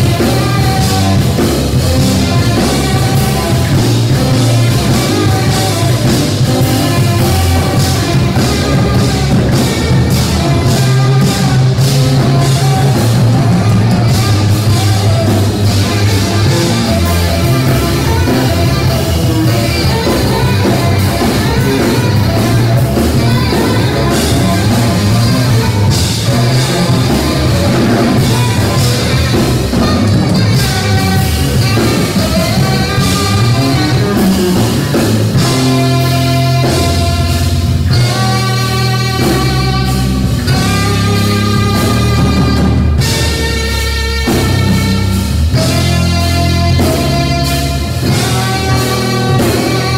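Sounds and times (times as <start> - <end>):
busy drumming: 0.0 - 49.9
electric bass line: 0.0 - 49.9
saxophone: 0.0 - 49.9.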